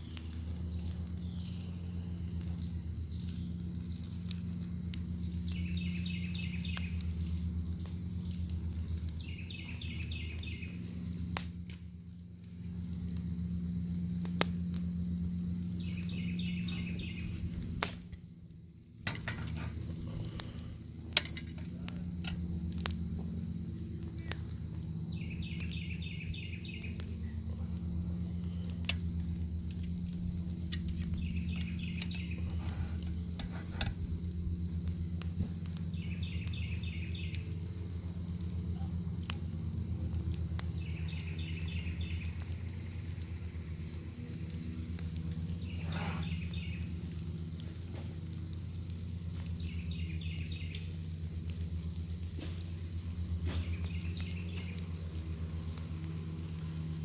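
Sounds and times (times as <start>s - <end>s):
insect trilled chirps: 0.0s - 52.2s, 52.8s - 57.0s
fire pops and crackles: 0.0s - 57.0s
steady low rumble: 0.0s - 57.0s.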